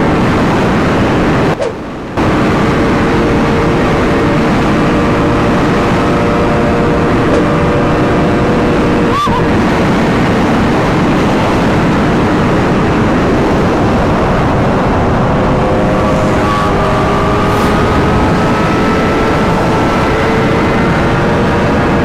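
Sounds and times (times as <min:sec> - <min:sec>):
motorcycle engine running hard: 0:00.0 - 0:22.0
wind rush: 0:00.0 - 0:22.0.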